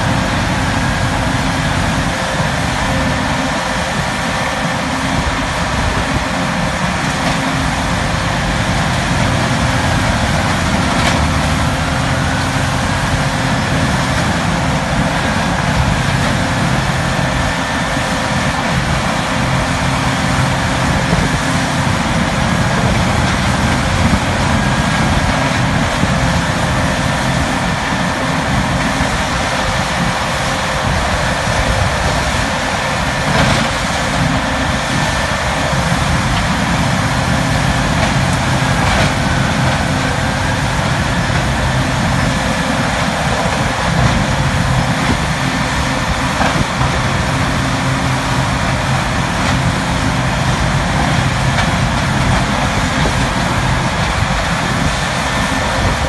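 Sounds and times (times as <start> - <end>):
wood grinder running under load: 0.0 - 56.0.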